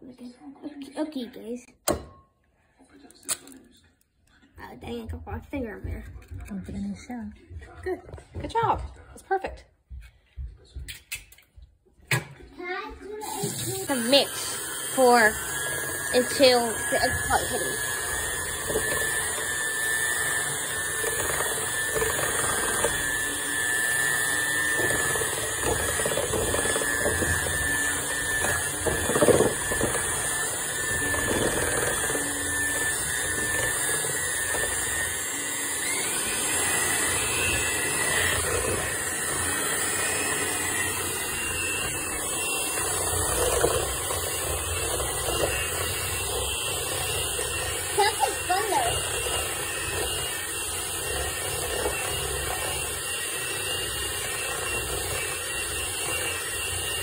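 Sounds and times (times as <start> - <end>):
electric hand mixer whirring: 4.6 - 10.8, 12.1 - 57.0.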